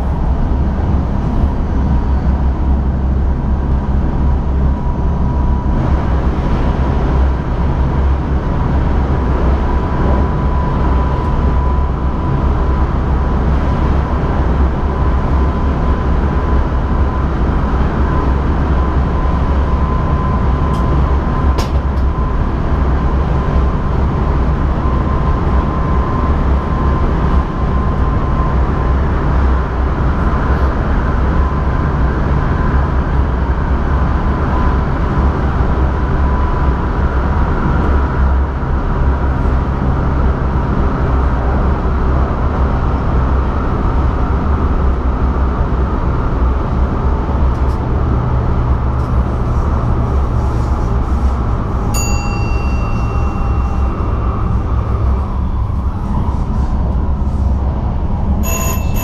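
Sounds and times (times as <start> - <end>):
thin steady whine: 0.0 - 59.0
wheels rumbling on rails: 0.0 - 59.0.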